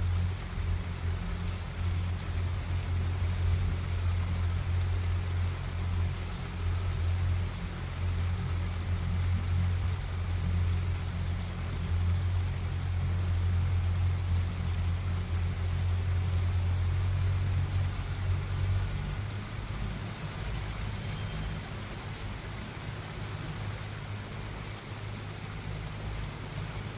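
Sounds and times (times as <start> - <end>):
steady rain hiss: 0.0 - 26.9.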